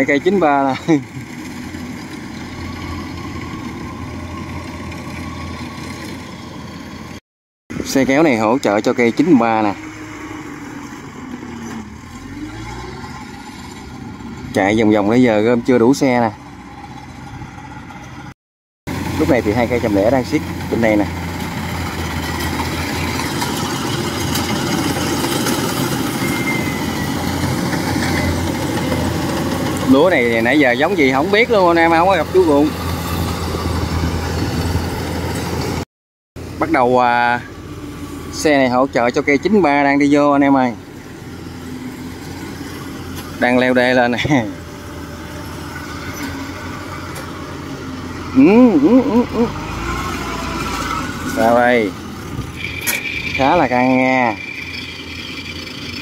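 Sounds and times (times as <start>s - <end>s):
combine harvester engine running: 0.0s - 18.3s, 18.9s - 35.8s, 36.4s - 56.0s.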